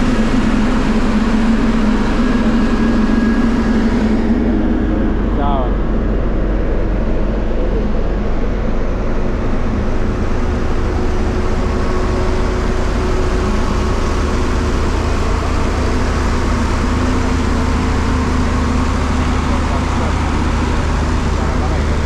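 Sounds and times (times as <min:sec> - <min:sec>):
faint engine hum: 0:00.0 - 0:22.0
road traffic rumble: 0:00.0 - 0:22.0.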